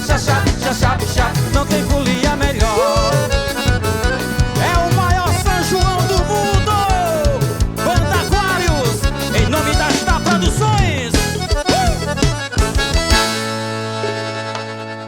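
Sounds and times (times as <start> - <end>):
band music with quick beat: 0.0 - 15.0.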